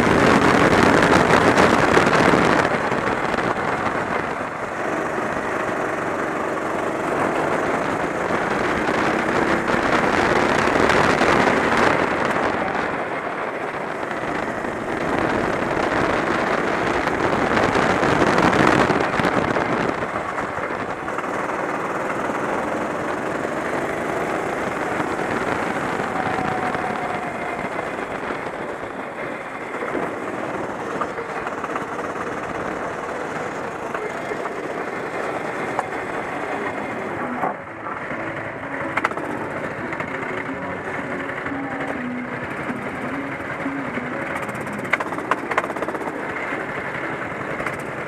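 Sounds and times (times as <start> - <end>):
kart engine running: 0.0 - 48.0
wind rush: 0.0 - 48.0.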